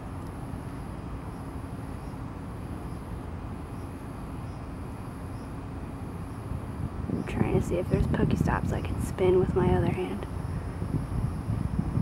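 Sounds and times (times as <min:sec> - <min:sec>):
faint high pulsing buzz: 0:00.0 - 0:12.0.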